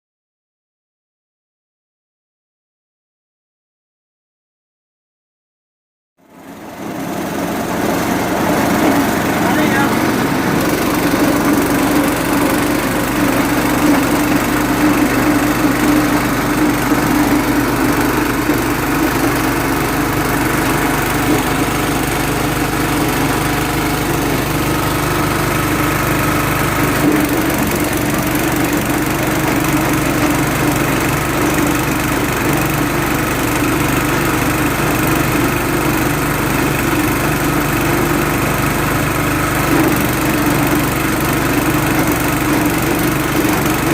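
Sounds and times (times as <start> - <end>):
feed chopper machine humming: 6.2 - 43.9.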